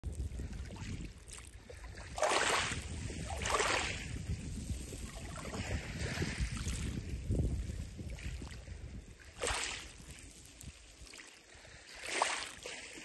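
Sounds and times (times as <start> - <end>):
wind rumble on microphone: 0.0 - 11.9
waves washing over pebbles: 0.1 - 13.0.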